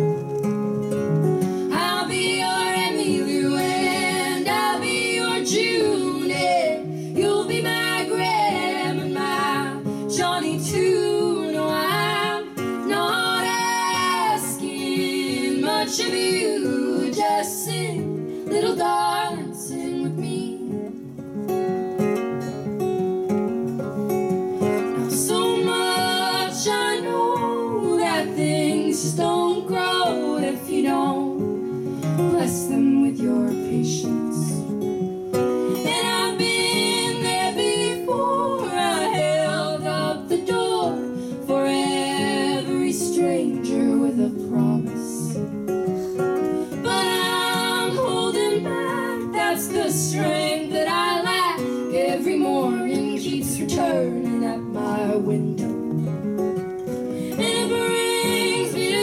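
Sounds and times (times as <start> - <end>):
acoustic guitar: 0.0 - 59.0
women singing together: 1.5 - 21.0, 24.6 - 34.7, 35.6 - 45.5, 46.5 - 56.0, 57.1 - 59.0.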